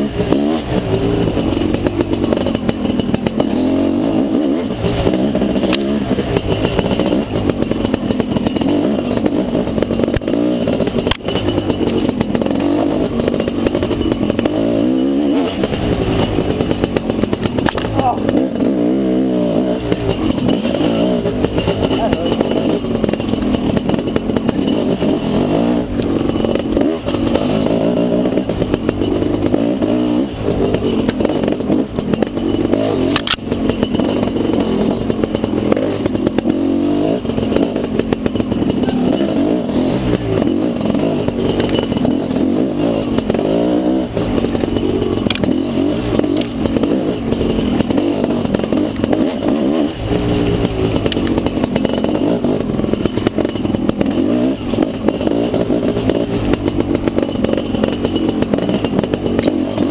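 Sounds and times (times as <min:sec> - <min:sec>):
bike rattling: 0:00.0 - 0:59.9
dirt bike engine revving: 0:00.0 - 0:59.9.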